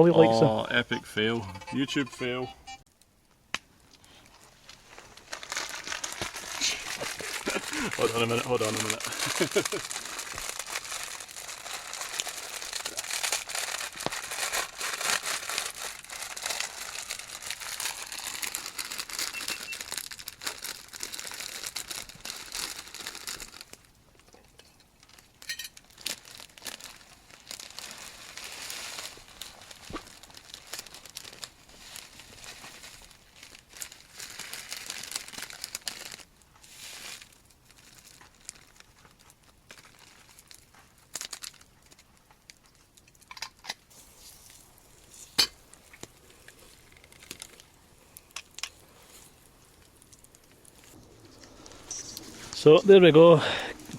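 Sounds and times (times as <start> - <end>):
plastic packaging crinkling: 3.8 - 53.9.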